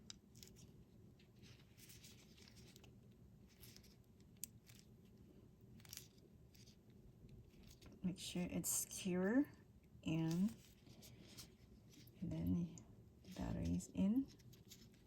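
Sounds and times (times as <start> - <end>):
soft scratching: 0.0 - 9.5, 10.1 - 15.0.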